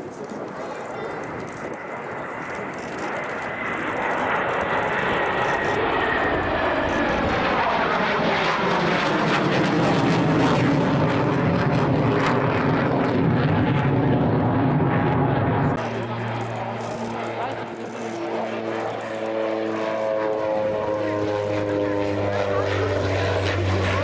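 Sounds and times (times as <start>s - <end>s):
aircraft flying past: 0.0s - 24.0s.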